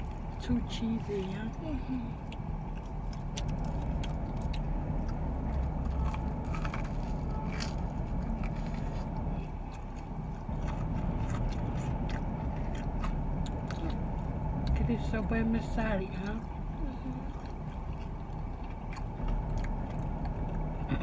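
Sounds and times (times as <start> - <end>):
crunchy food chewing: 0.0 - 14.8, 16.2 - 20.9
car cabin rumble: 0.0 - 21.0.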